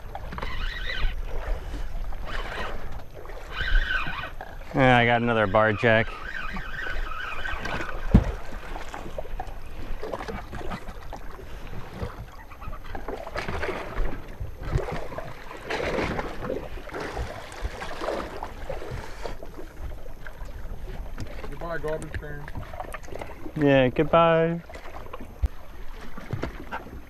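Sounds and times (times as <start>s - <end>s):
water sloshing around a boat: 0.0s - 27.0s.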